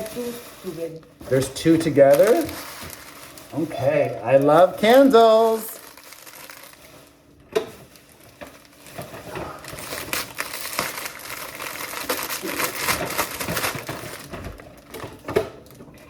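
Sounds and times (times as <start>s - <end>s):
paper crumpling and crinkling: 0.0s - 16.0s.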